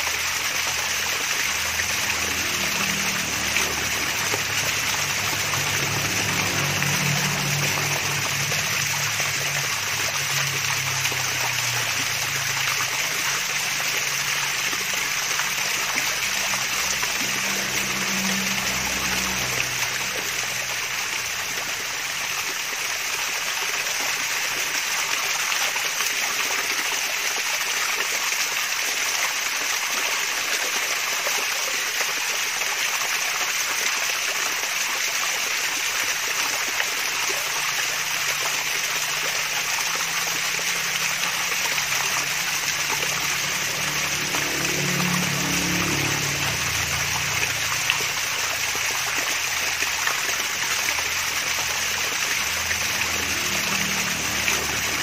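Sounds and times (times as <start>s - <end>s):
waterfall splashing and trickling: 0.0s - 55.0s.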